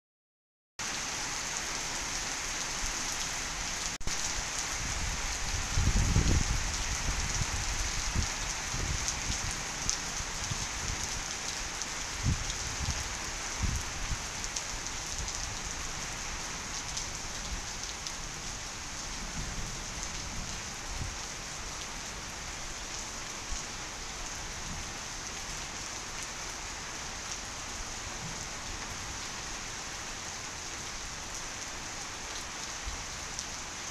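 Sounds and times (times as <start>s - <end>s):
heavy rain on roofs: 0.8s - 33.9s.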